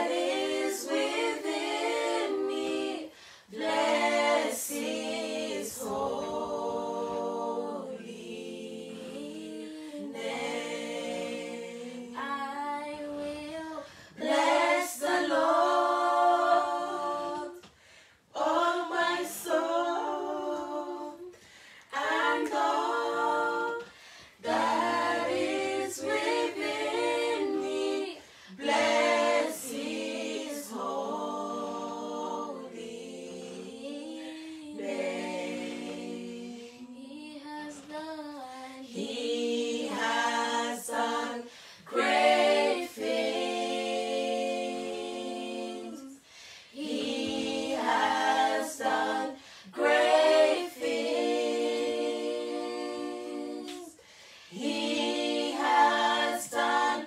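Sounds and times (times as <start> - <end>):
group singing a cappella: 0.0 - 57.0.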